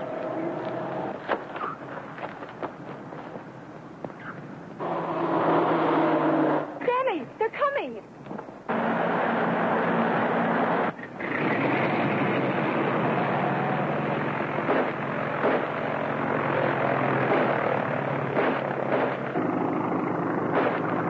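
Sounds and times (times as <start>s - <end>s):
propeller engine droning: 0.0s - 6.8s, 8.4s - 21.0s.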